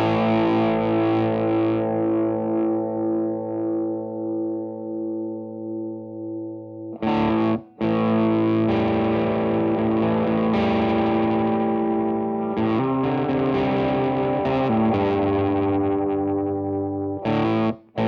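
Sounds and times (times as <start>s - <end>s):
overdriven electric guitar chords: 0.0s - 18.0s.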